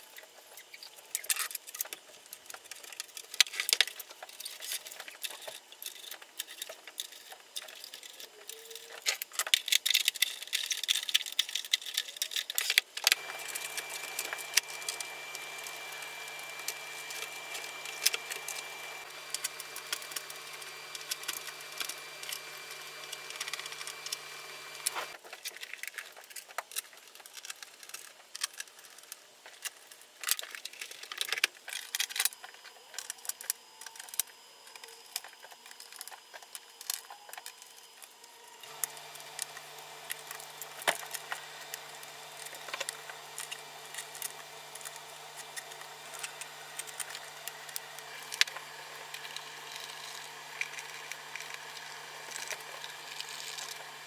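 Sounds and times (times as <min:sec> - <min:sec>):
faint steady hum: 0:00.0 - 0:25.6, 0:27.8 - 0:54.0.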